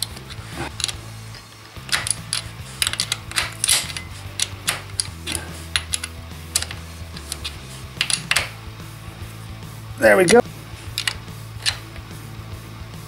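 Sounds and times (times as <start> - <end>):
spanner clicking and tapping: 0.0 - 8.8, 10.2 - 12.1.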